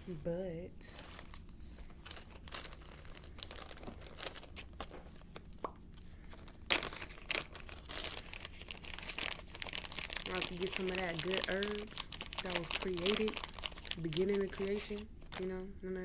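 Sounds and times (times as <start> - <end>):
paper or plastic rustling: 0.8 - 15.5.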